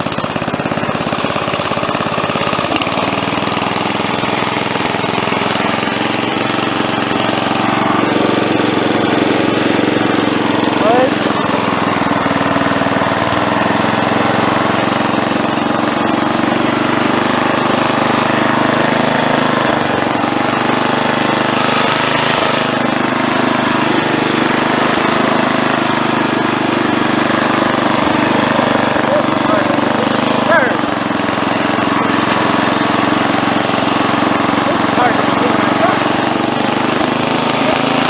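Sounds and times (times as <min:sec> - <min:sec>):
lawn tractor engine running: 0:00.0 - 0:38.0.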